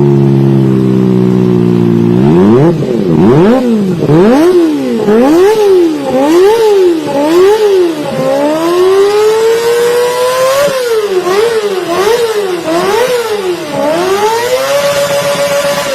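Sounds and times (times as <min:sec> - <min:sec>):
motorbike engine revving: 0:00.0 - 0:15.9.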